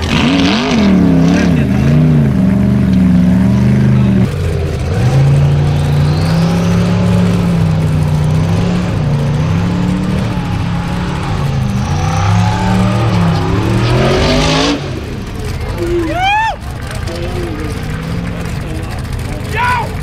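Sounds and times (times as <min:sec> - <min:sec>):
buggy engine revving hard: 0:00.0 - 0:20.0.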